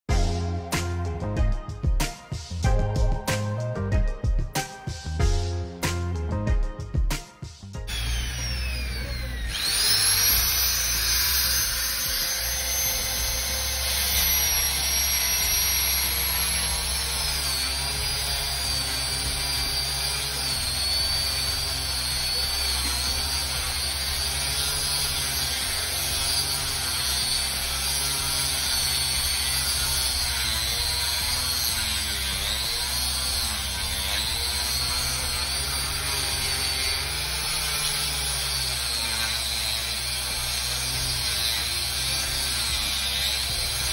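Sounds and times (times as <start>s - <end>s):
electric drill whining into stone: 7.8s - 43.9s.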